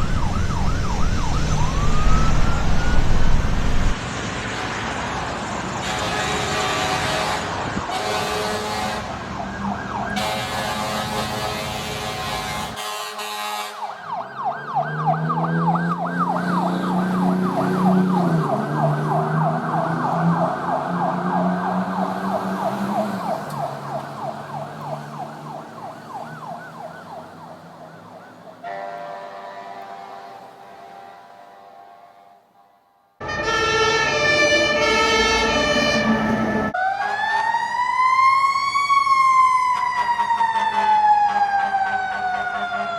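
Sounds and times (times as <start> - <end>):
road noise: 0.0 - 31.8, 33.2 - 42.9
emergency vehicle siren: 0.0 - 32.0, 33.2 - 42.9.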